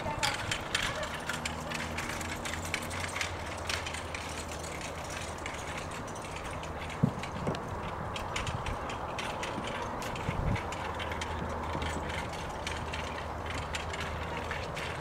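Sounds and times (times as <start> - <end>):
carriage wheels rattling and clicking: 0.0 - 15.0.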